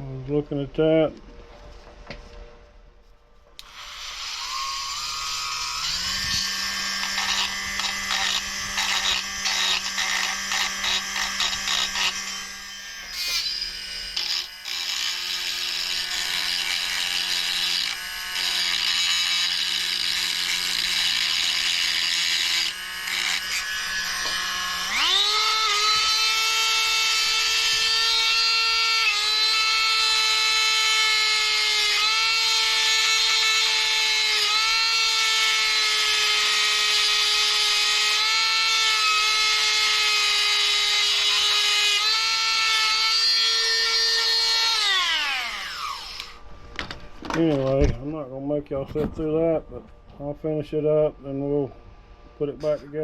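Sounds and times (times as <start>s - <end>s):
electric rotary tool grinding metal: 3.6s - 46.4s.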